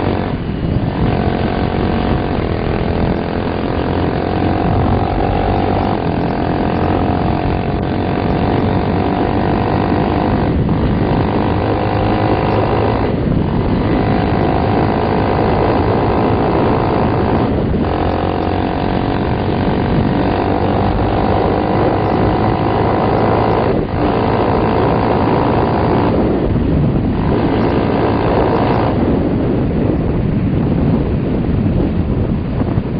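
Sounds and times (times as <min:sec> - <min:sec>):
motorcycle engine accelerating: 0:00.0 - 0:32.9.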